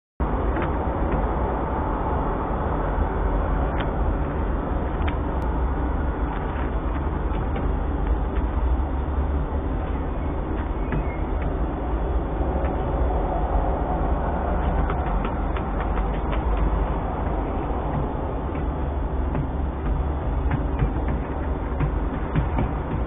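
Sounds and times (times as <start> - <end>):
low rumbling background noise: 0.2 - 23.0.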